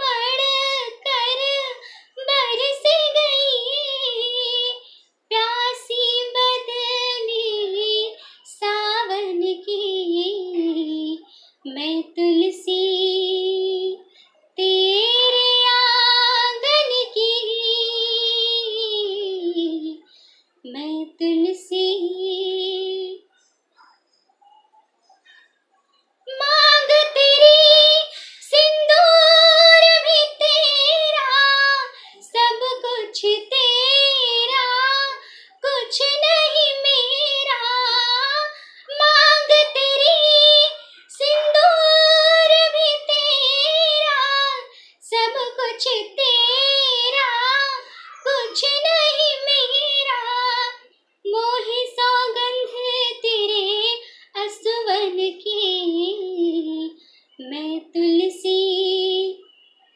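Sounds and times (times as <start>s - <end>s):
woman singing unaccompanied: 0.0s - 23.4s, 26.1s - 59.6s.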